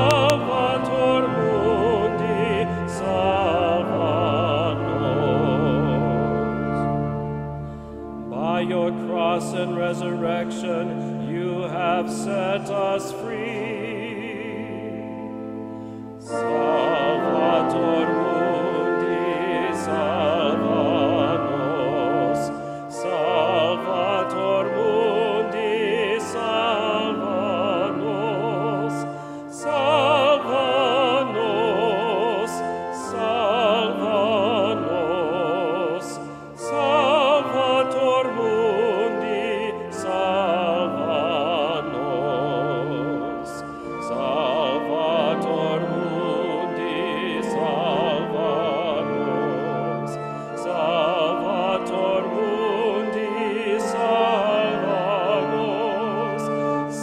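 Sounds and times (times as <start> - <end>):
person singing a hymn: 0.0 - 57.0
sustained accompaniment: 0.0 - 57.0.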